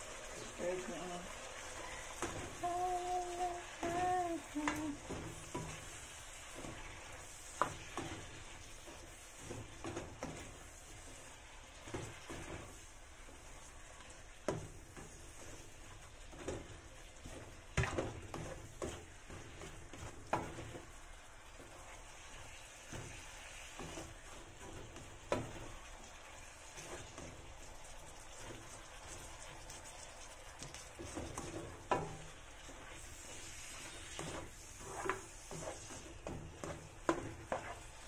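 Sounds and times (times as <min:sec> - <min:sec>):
vegetables sizzling in a wok: 0:00.0 - 0:38.0
spatula scraping and knocking pan: 0:01.8 - 0:02.6, 0:03.7 - 0:38.0.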